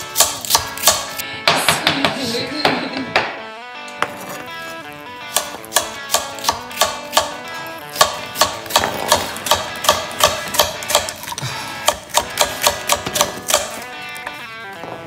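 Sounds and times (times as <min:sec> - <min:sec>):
background music with quick beat: 0:00.1 - 0:14.2.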